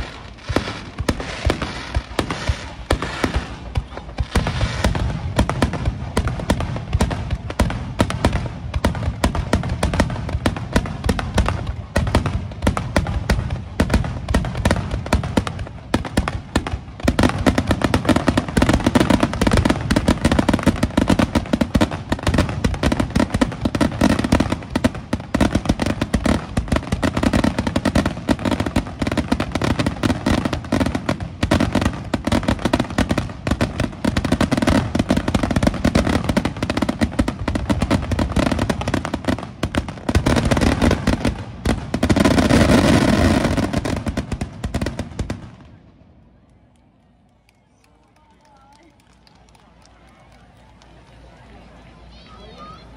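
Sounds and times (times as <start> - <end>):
fireworks bursting: 0.0 - 45.8.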